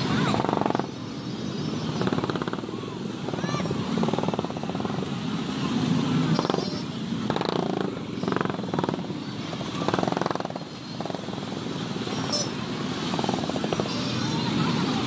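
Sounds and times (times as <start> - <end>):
crowd shouting and talking: 0.0 - 15.0
motorcycle engines running: 0.0 - 15.0.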